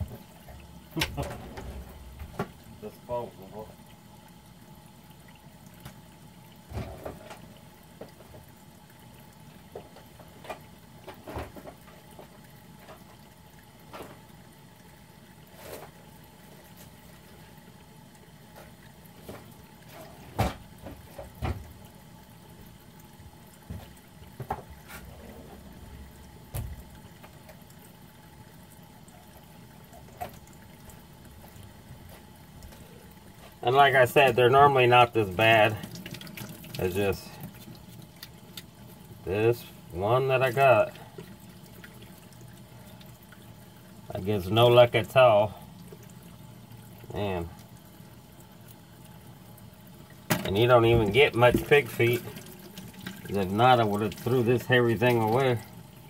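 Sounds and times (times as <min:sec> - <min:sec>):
tap water running into sink: 0:00.0 - 0:56.0.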